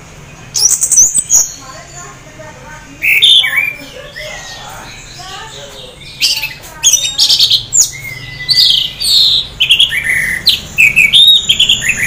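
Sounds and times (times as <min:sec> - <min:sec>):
thrush singing: 0:00.0 - 0:12.0.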